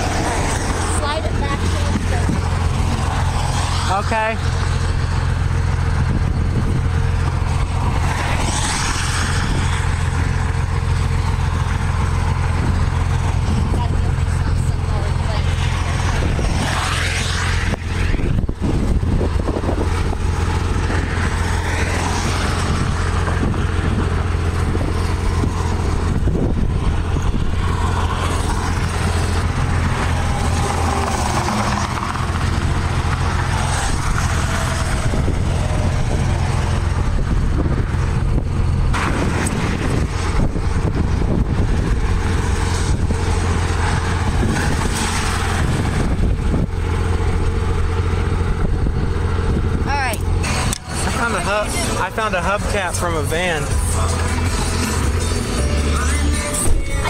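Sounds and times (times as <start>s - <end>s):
rushing noise: 0.0s - 57.0s
vehicle engine droning: 0.0s - 57.0s.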